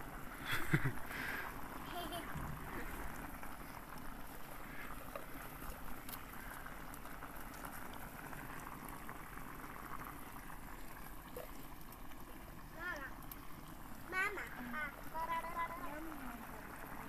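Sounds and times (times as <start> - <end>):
broth bubbling in a pan: 0.0 - 17.0.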